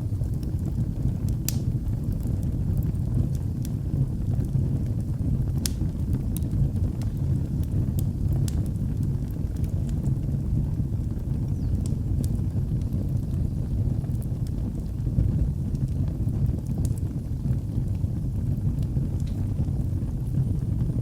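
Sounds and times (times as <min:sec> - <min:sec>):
burning wood crackling and popping: 0:00.0 - 0:21.0
fire low rumble: 0:00.0 - 0:21.0.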